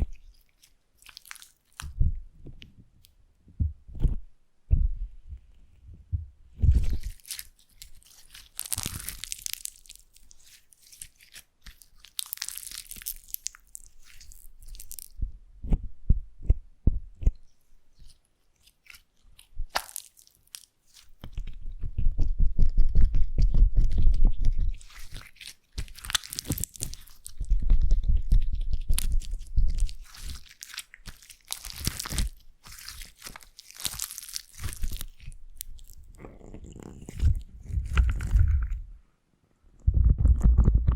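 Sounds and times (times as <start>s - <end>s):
slime squishing: 0.0s - 2.8s, 6.5s - 39.0s.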